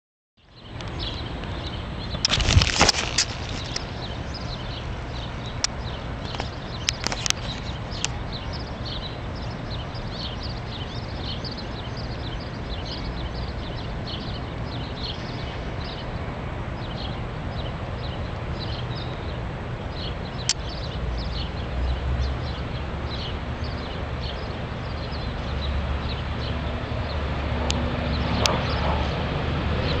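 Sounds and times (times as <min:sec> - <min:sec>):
wind rumble on microphone: 0:00.6 - 0:30.0.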